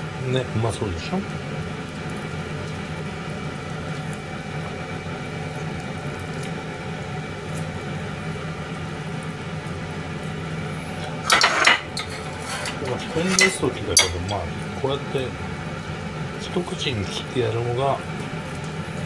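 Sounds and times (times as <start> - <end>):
kitchen motor humming: 0.0 - 19.0.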